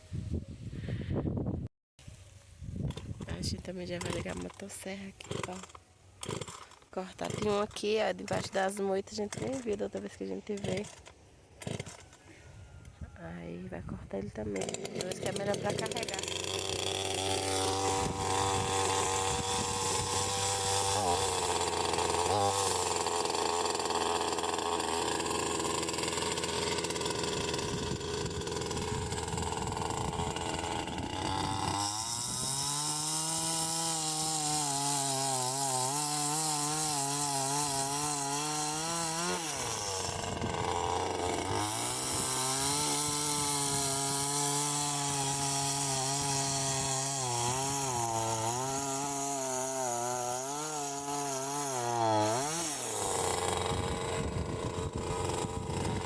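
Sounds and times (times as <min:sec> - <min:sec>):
chainsaw cutting logs: 0:02.0 - 0:12.9, 0:14.1 - 0:56.0.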